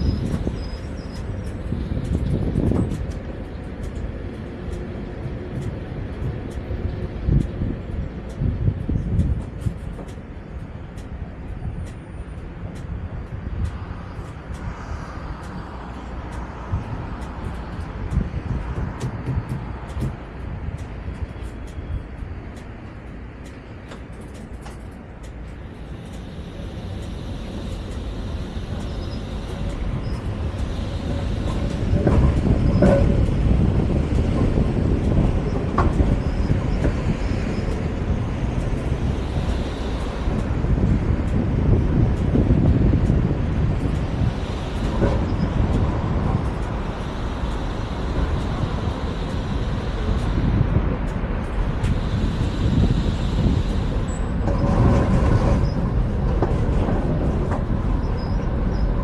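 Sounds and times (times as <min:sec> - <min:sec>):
tram running on rails: 0:00.0 - 0:59.0
wheels rumbling on track: 0:00.0 - 0:59.0
faint clicks: 0:00.1 - 0:58.9.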